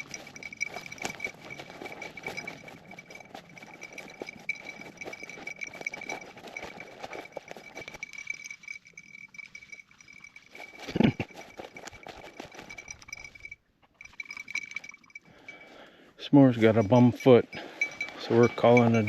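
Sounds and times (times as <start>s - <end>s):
high ringing tone: 0.0s - 15.8s, 16.4s - 19.0s.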